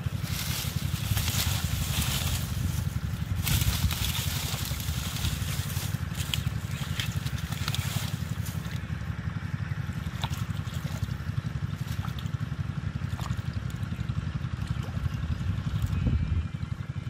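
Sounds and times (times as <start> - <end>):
small splashes: 0.0 - 9.0, 9.8 - 16.0
muddy water sloshing: 0.0 - 17.0
steady low rumble: 0.0 - 17.0.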